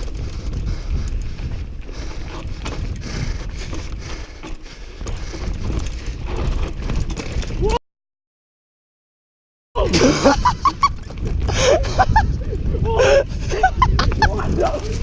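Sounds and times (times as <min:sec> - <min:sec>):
mountain bike rattling: 0:00.0 - 0:07.8, 0:10.0 - 0:15.0
wind on microphone: 0:00.0 - 0:07.8, 0:09.9 - 0:15.0.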